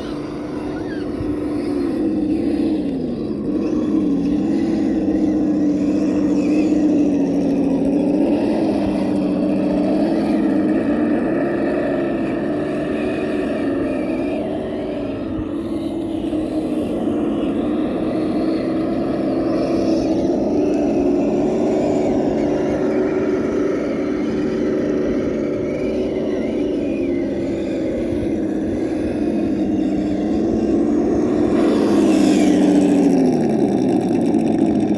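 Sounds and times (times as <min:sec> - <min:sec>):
electric motor whining: 0:00.0 - 0:34.9.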